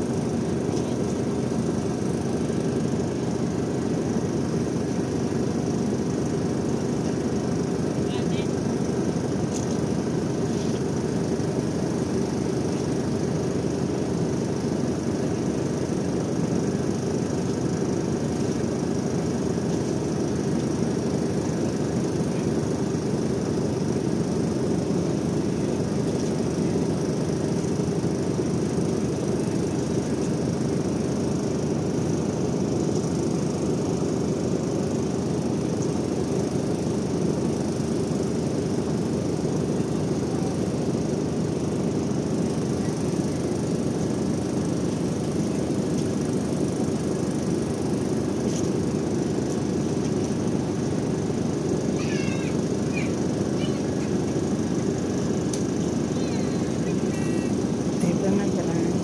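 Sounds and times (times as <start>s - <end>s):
ship engine droning: 0.0s - 59.0s.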